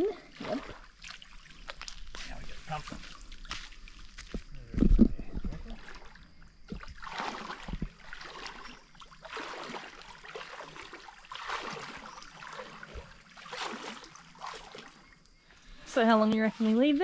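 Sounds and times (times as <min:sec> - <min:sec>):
water sloshing in shallows: 0:00.0 - 0:17.0.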